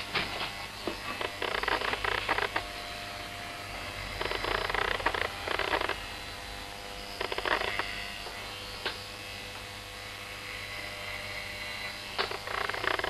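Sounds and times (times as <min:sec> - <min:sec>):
clippers rasping through hair: 0:00.0 - 0:13.0
electric hair clippers buzzing: 0:00.0 - 0:13.0.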